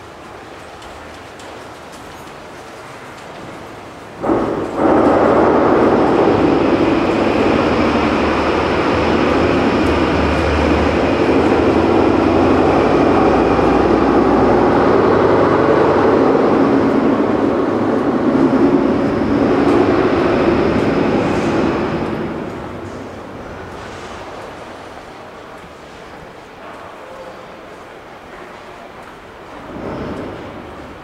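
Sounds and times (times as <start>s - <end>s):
train rumbling over rails: 0.0s - 31.0s.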